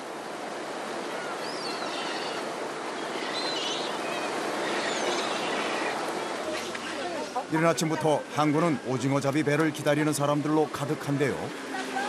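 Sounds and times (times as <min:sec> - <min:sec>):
sea water washing: 0:00.0 - 0:12.0.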